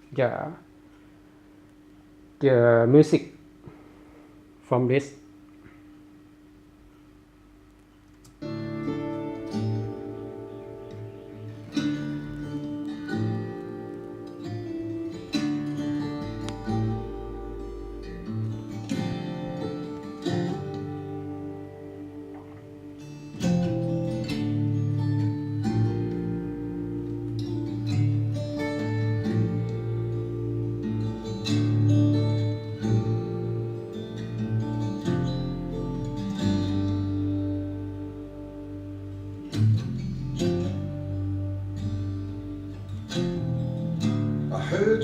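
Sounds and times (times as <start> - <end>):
guitar music over loudspeaker: 8.4 - 45.0.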